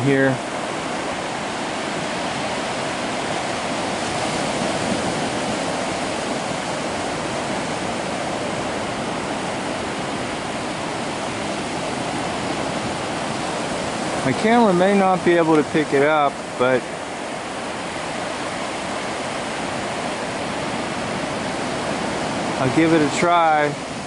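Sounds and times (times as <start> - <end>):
ocean surf breaking on shore: 0.0 - 24.0.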